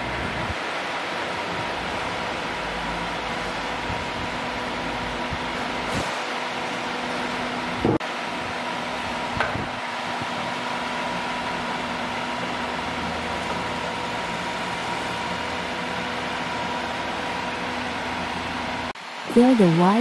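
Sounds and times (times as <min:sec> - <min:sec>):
workshop hum and hiss: 0:00.0 - 0:20.0.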